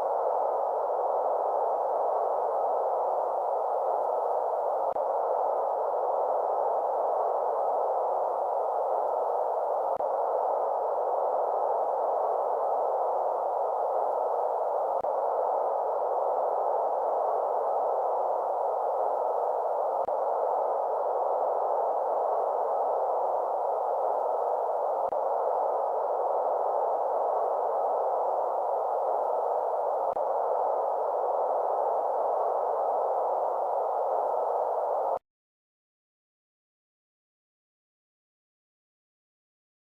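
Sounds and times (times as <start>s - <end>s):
steady white noise: 0.0s - 35.2s.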